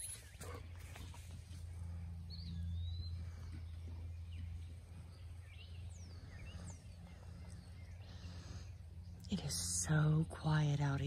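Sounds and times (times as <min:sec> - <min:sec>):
birds chirping and whistling: 0:00.0 - 0:09.5
steady low hum: 0:00.0 - 0:11.0.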